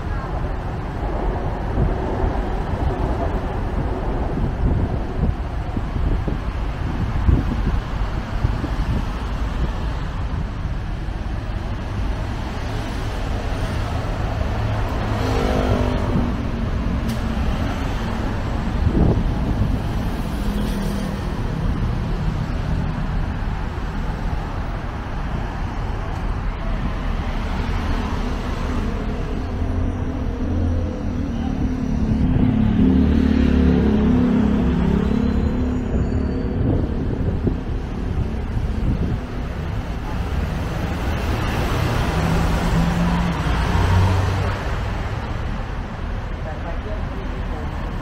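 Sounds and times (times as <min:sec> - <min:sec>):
vehicles passing: 0:00.0 - 0:48.0.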